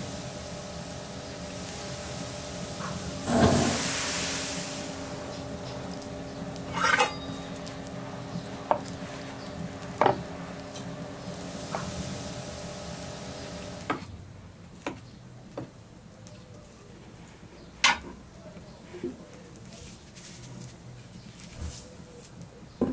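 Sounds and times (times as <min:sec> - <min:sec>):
background hum and hiss: 0:00.0 - 0:22.9.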